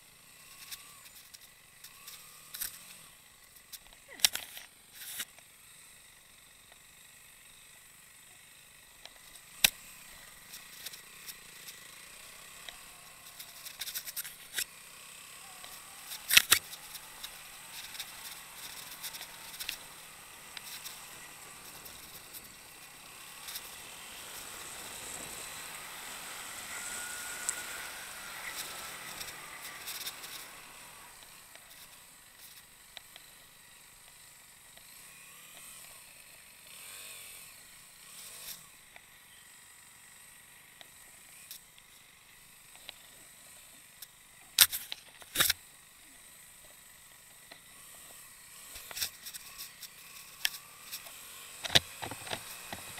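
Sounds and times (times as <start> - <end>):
faint motorcycle engine: 0.0 - 52.9.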